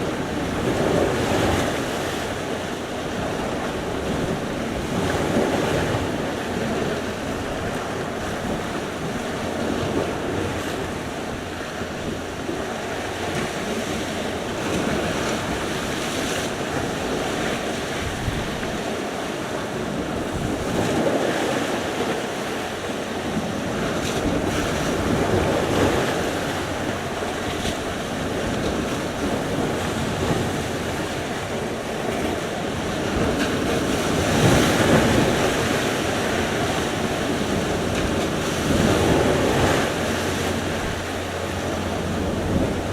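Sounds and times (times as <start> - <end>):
waves breaking on shore: 0.0 - 42.9
wind on microphone: 0.0 - 42.9.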